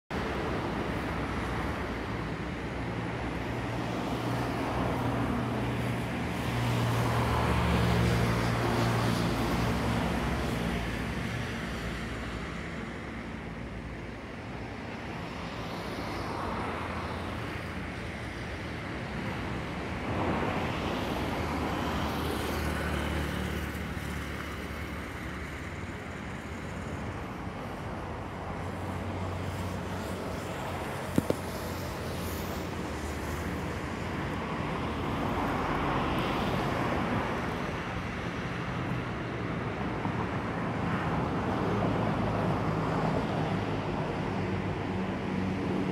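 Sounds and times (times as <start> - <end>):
cars passing: 0.1 - 45.9.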